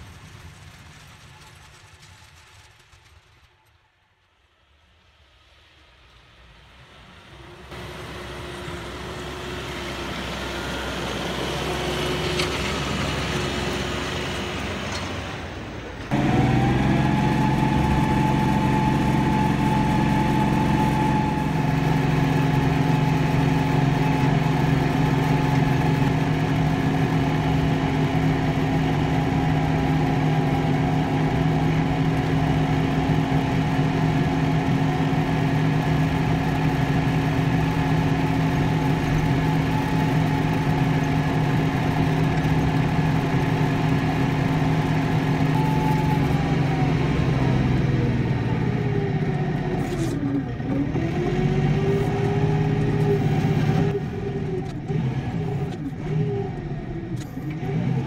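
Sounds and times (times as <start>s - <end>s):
tractor diesel engine running: 7.3s - 58.0s
snow plow blade pushing: 7.7s - 58.0s.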